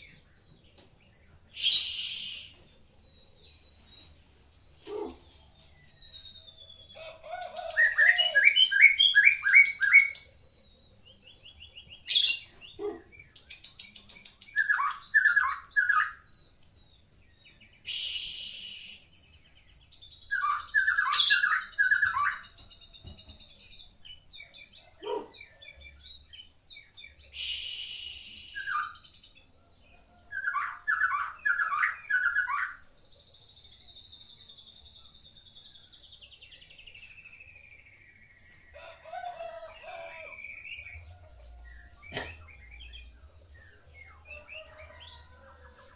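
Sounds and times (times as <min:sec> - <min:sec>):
songbird singing whistled notes: 0:00.0 - 0:45.9.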